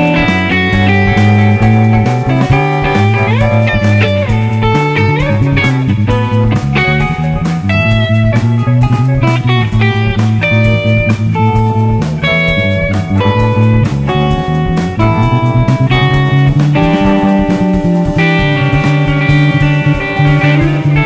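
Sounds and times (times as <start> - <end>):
bass guitar: 0.0 - 21.0
drum kit: 0.0 - 21.0
electric guitar lead: 0.0 - 21.0.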